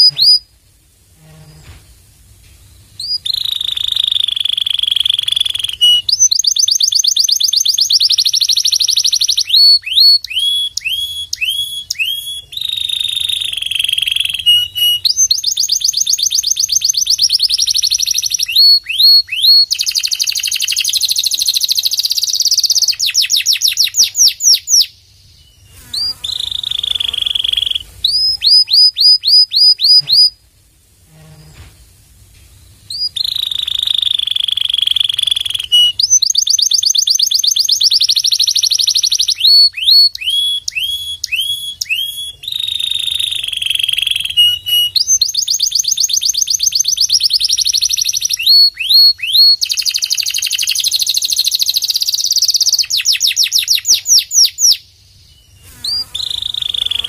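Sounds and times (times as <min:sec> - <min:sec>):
canary singing: 0:00.0 - 0:00.5, 0:03.0 - 0:30.4, 0:32.9 - 0:57.0.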